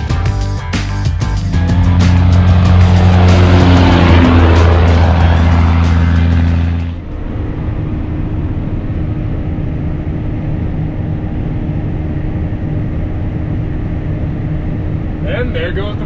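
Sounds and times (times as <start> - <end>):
harvester machine drone: 0.0 - 16.0.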